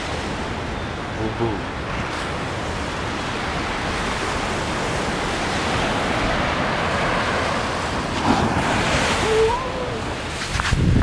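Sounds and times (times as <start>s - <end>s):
sea surf washing onto beach: 0.0s - 11.0s
wind on microphone: 1.7s - 11.0s.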